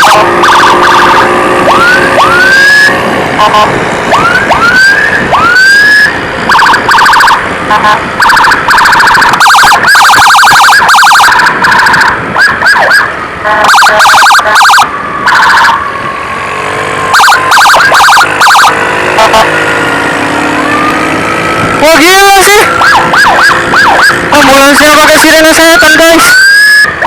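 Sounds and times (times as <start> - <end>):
ambulance electronic siren: 0.0 - 27.0.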